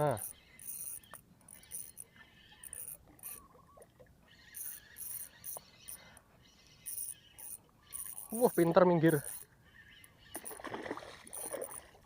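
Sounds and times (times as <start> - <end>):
insects chirping: 0.0 - 3.4, 4.4 - 12.0.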